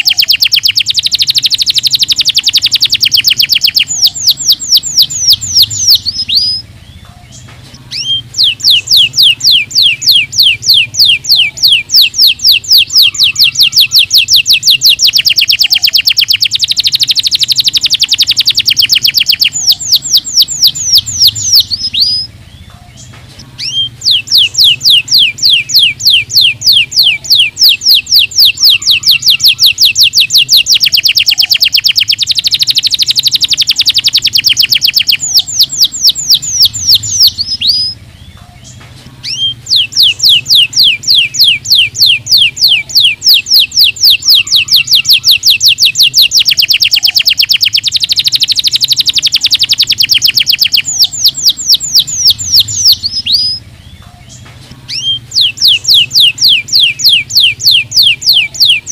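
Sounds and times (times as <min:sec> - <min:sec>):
canary singing fast trills: 0:00.0 - 0:58.9.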